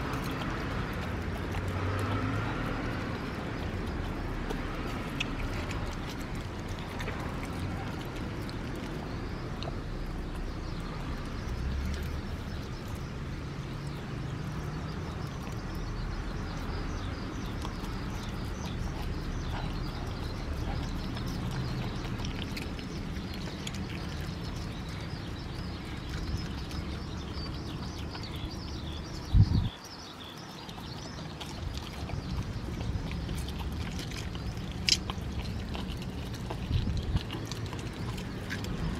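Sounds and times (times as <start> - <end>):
dog chewing meat: 0.0 - 38.9.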